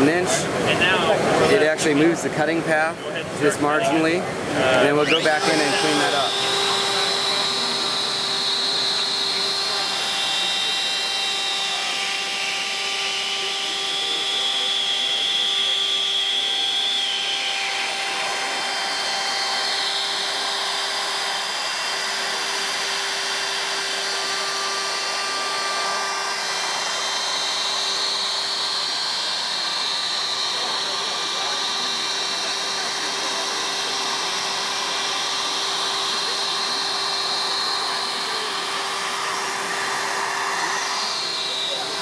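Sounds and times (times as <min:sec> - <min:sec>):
router spindle whining: 0:00.0 - 0:42.0.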